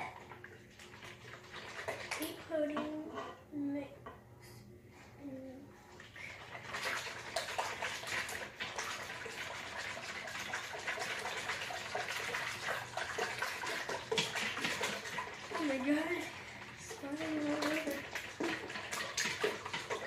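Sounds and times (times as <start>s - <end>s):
liquid sloshing in a bowl: 0.0s - 3.4s, 5.8s - 20.0s.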